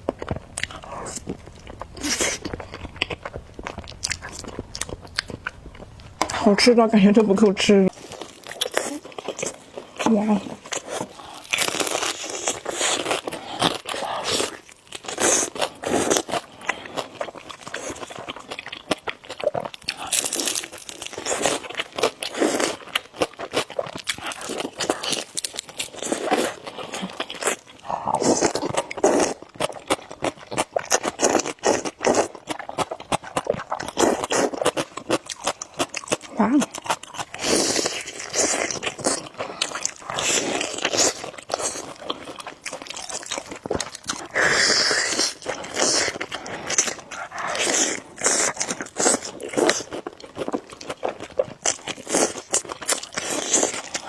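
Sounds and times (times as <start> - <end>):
crunchy biting and chewing: 0.0 - 6.4, 7.9 - 54.0.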